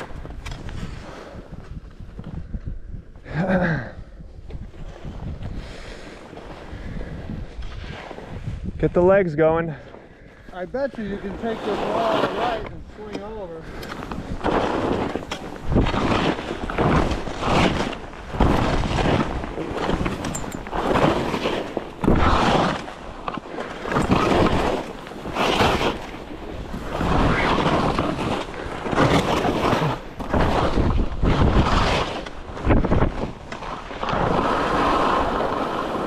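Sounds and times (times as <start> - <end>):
skis scraping through snow: 0.0 - 2.4, 4.2 - 9.6, 10.2 - 36.0
wind on microphone: 0.0 - 9.2, 10.8 - 36.0.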